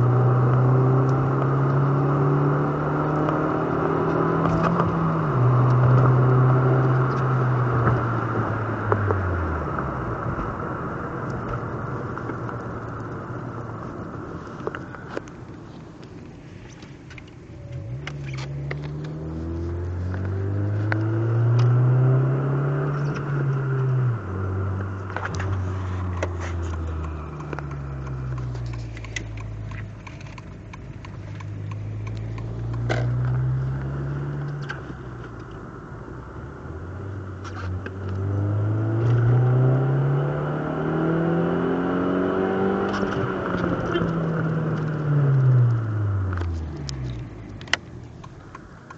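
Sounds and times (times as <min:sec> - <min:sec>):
car engine revving: 0:00.0 - 0:15.0, 0:17.5 - 0:48.9.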